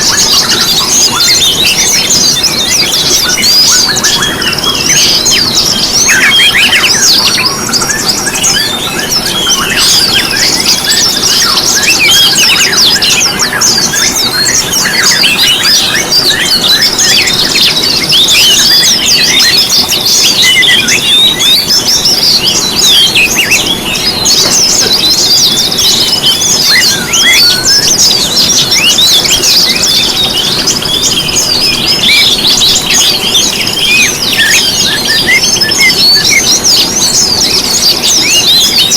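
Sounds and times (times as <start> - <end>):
songbirds chorus: 0.0 - 38.9.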